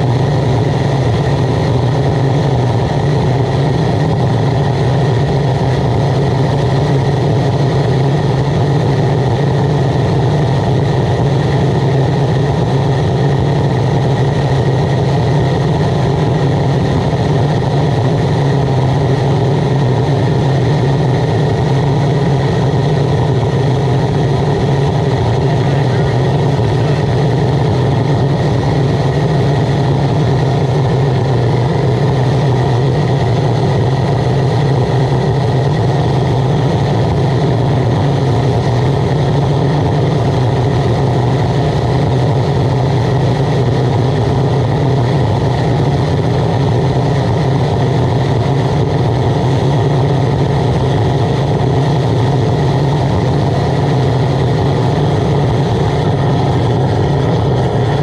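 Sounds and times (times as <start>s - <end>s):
oil burner running: 0.0s - 58.0s.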